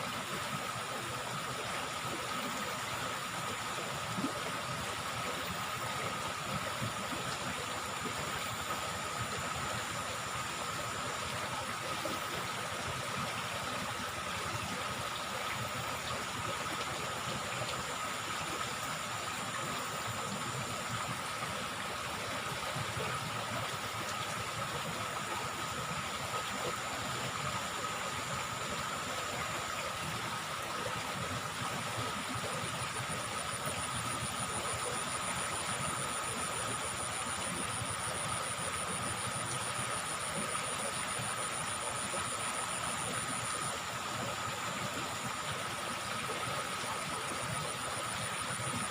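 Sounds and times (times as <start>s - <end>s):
river water rushing: 0.1s - 48.9s.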